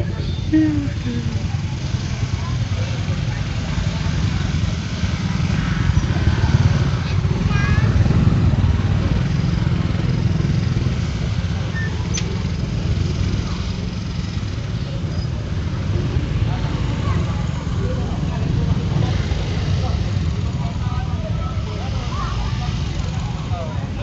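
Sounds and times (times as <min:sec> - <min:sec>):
motorcycles riding: 0:00.0 - 0:24.0
truck engine rumble: 0:00.0 - 0:24.0.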